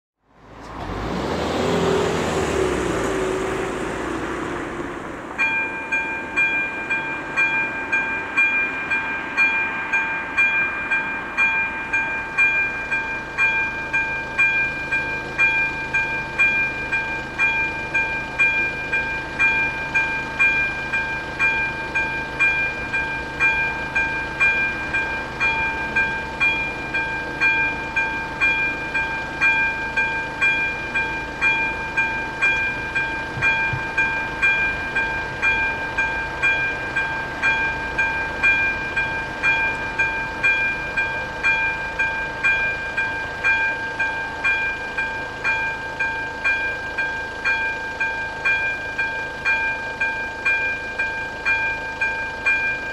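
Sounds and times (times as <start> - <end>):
electronic level crossing bell ringing: 5.4 - 52.9.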